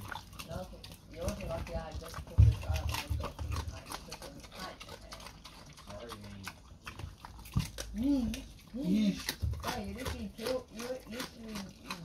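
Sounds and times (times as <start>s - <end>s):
pig chewing and smacking: 0.0s - 12.0s.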